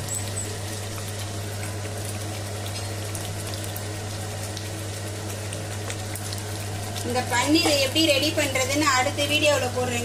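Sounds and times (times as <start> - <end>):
gravy bubbling in a pan: 0.0 - 10.0.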